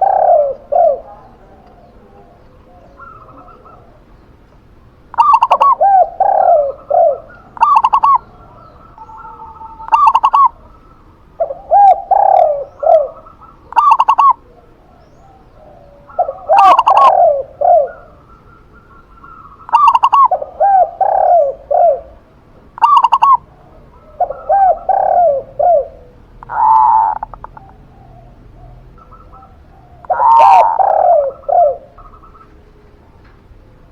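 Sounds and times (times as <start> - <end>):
higher clipped dove coos: 0.0 - 4.2, 5.1 - 33.0
lower rolling dove coos: 0.0 - 33.9.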